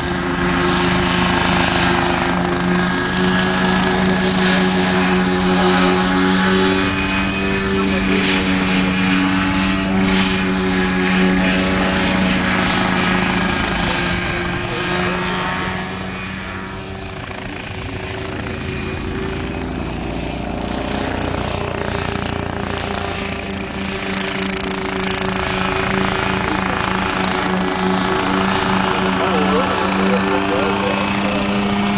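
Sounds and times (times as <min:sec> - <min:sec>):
helicopter engine and rotors humming: 0:00.0 - 0:31.9.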